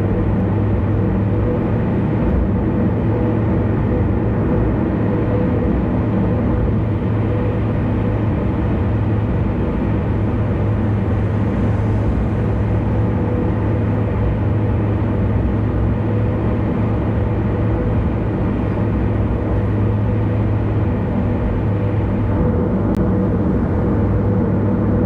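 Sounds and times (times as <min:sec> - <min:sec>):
car road noise hum: 0:00.0 - 0:25.0.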